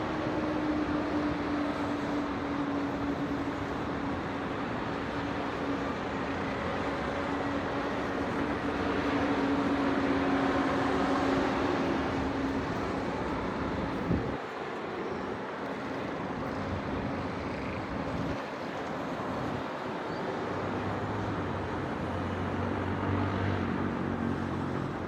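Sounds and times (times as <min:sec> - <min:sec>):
distant city traffic: 0:00.0 - 0:25.0.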